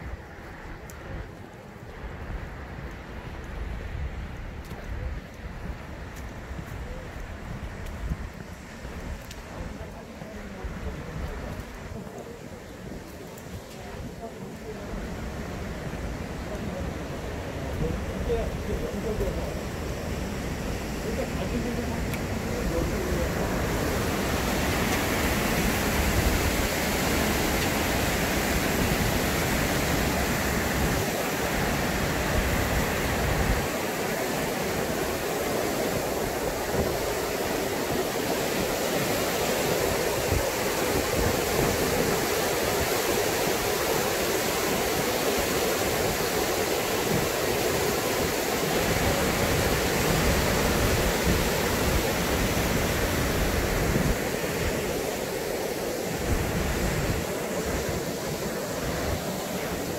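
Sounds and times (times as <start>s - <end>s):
waterfall cascading over boulders: 0.0s - 59.9s.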